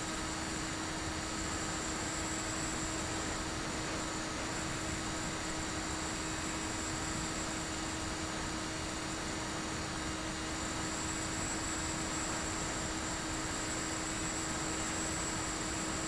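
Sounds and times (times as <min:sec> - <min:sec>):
electric motor and propeller hum: 0:00.0 - 0:16.0.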